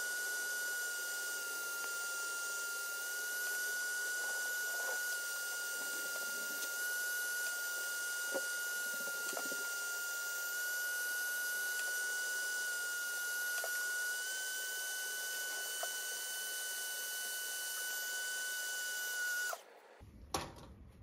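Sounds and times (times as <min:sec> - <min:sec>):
heat gun fan whine: 0:00.0 - 0:19.7.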